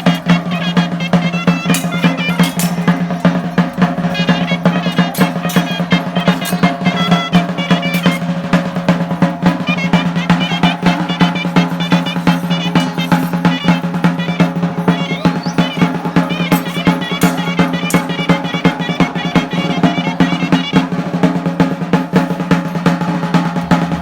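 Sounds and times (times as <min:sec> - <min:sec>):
fast dense drumming: 0:00.0 - 0:24.0
high ornamented reed-pipe melody: 0:00.0 - 0:24.0.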